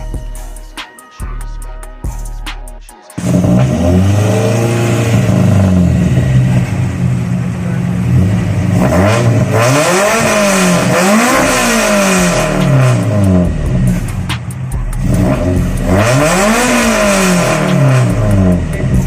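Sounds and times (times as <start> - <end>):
car engine revving: 1.3 - 19.0.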